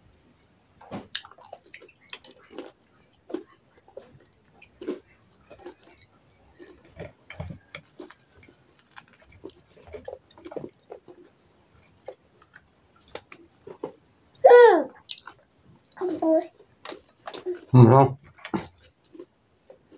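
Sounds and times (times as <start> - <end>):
wet chewing and lip smacking: 1.0 - 14.1, 14.9 - 19.9.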